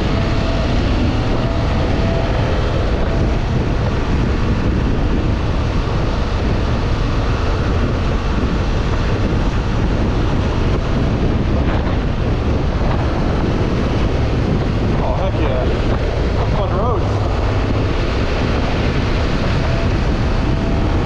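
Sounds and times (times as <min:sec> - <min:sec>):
motorcycle engine: 0:00.0 - 0:21.0
road noise: 0:00.0 - 0:21.0
wind buffeting microphone: 0:00.0 - 0:21.0.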